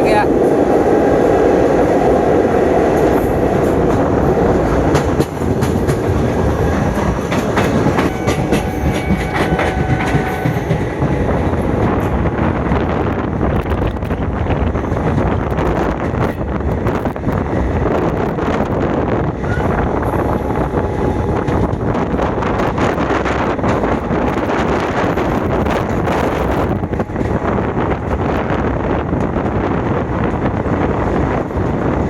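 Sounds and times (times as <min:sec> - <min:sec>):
train wheels rumbling on rail: 0:00.0 - 0:32.0
track clicking: 0:02.0 - 0:32.0.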